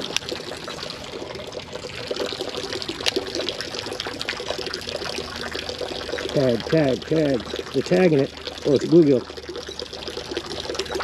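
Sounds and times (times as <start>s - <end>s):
creek water trickling and splashing: 0.0s - 11.0s.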